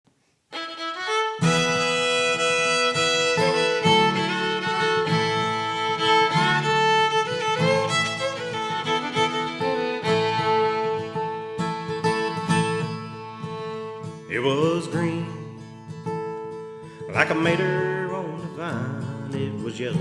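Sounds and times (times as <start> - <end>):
fiddle melody: 0.5 - 20.0
guitar: 0.5 - 20.0.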